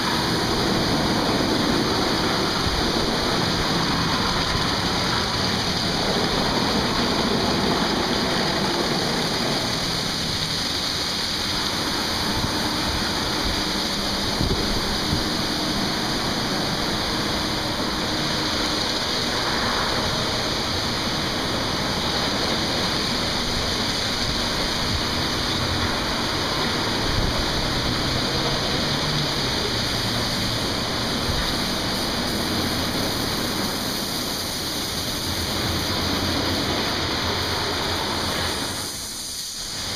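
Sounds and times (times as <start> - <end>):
water spraying on car: 0.0 - 39.9.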